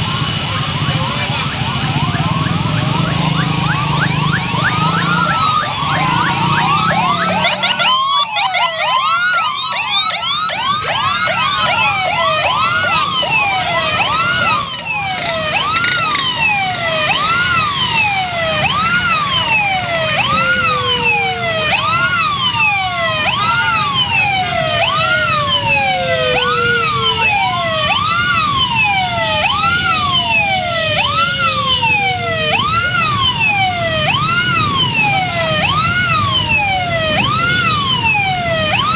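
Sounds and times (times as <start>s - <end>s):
electronic sirens wailing: 0.0s - 38.9s
motor scooters running: 0.0s - 38.9s.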